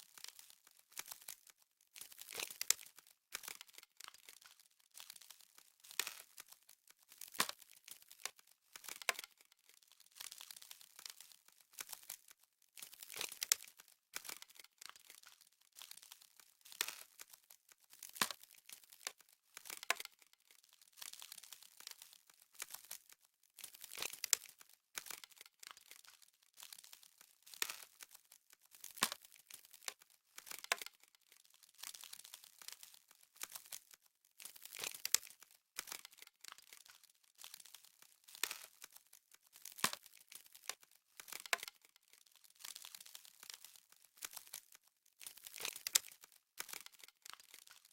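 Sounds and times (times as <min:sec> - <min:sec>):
frost crackling and crunching: 0:00.0 - 0:47.9.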